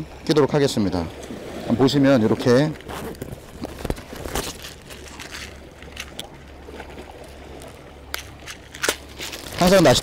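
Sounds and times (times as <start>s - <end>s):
wind: 0.0s - 10.0s.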